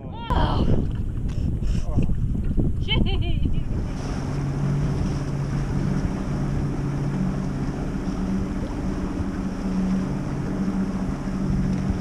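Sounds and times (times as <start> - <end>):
wind buffeting microphone: 0.0 - 12.0
outboard motor running: 0.3 - 12.0.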